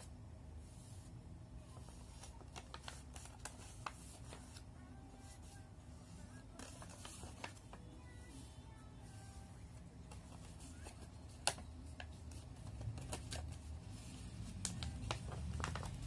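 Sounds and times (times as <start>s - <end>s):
paper being folded and creased: 0.7s - 16.0s.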